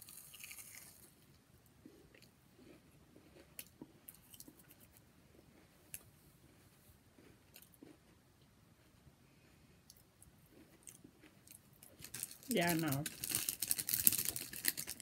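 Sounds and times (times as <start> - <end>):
candy crunching while chewing: 0.0 - 6.1, 7.1 - 8.2, 8.8 - 15.0.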